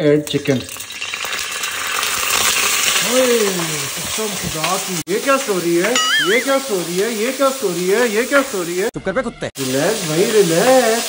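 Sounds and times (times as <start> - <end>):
chicken sizzling in hot oil: 0.0 - 8.9, 9.6 - 11.0.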